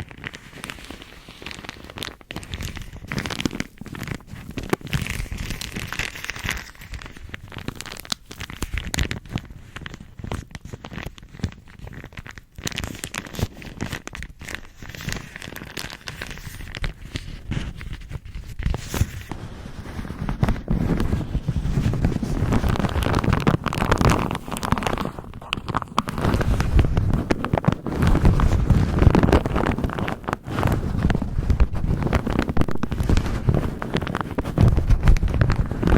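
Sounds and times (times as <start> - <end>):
bag crinkling: 0.0 - 35.9.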